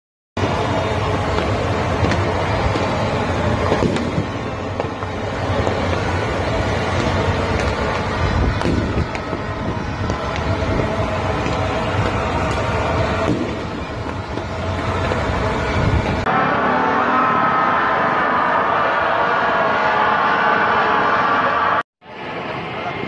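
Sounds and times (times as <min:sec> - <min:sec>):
huge crowd din: 0:00.4 - 0:23.0
traffic: 0:00.4 - 0:23.0.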